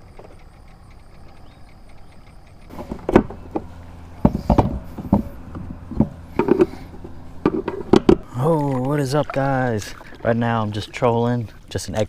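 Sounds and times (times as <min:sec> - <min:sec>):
gear knocking on plastic deck: 0:00.0 - 0:10.6.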